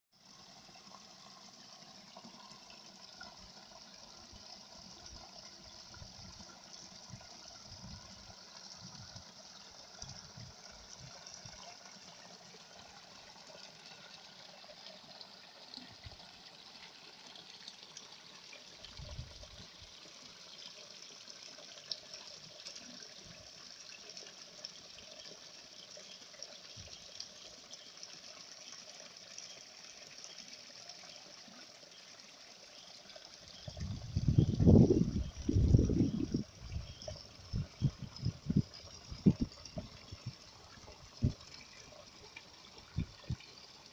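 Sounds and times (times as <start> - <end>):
stream trickling over rocks: 0.2 - 43.9.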